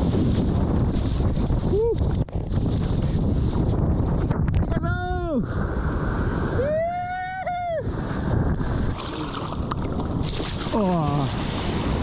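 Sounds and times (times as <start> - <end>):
seawater surf: 0.0 - 12.0
wind on microphone: 0.0 - 12.0.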